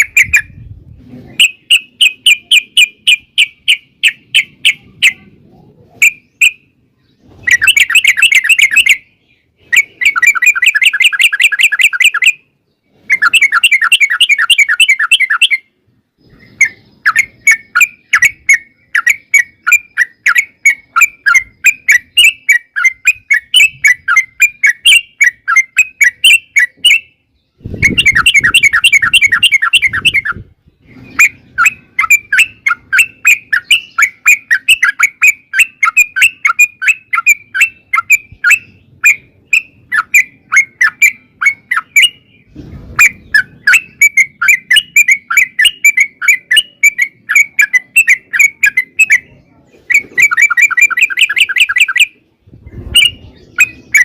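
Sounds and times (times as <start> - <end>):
bird singing chattering trills: 0.0 - 54.0.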